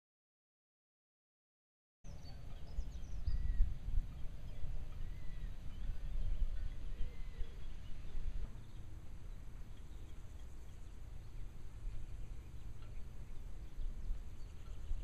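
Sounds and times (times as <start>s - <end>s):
faint bird chirps: 2.1s - 15.0s
wind buffeting microphone: 2.1s - 15.0s.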